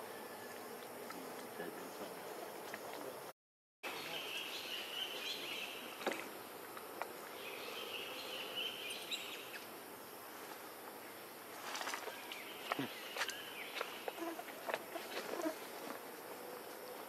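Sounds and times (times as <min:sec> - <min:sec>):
insects droning: 0:00.0 - 0:03.3, 0:03.9 - 0:17.0.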